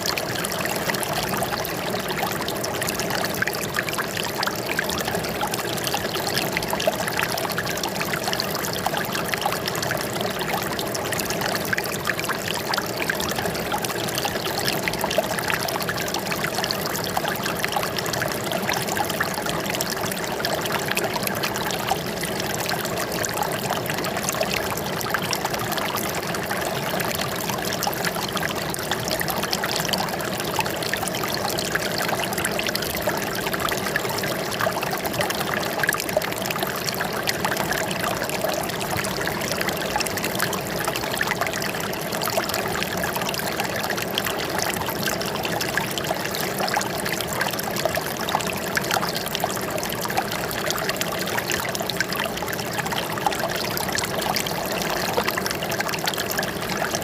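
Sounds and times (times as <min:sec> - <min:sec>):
water flowing and trickling: 0:00.0 - 0:57.0.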